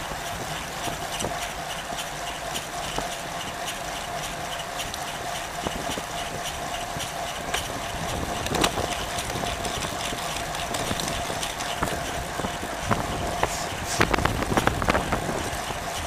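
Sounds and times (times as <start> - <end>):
bike tyre and wind noise: 0.0 - 16.0
constant hum: 0.0 - 16.0.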